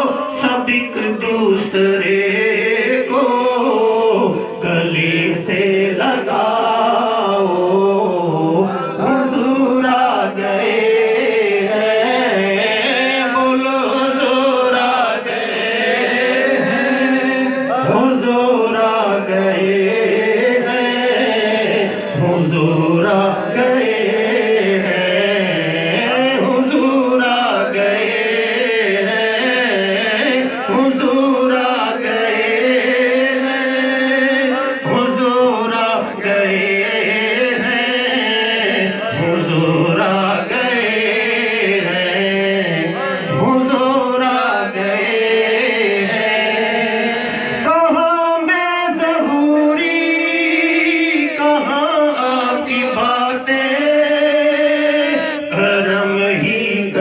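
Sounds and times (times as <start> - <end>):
men chanting devotional poem: 0.0 - 57.0.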